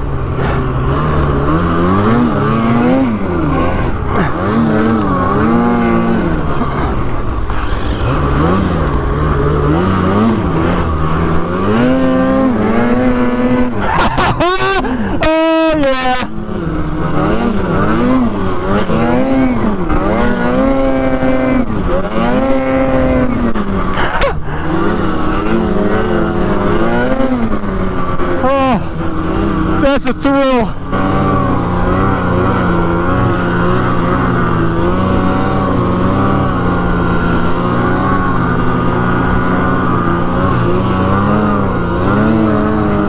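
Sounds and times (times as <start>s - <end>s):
snowmobile engine revving: 0.0s - 43.0s.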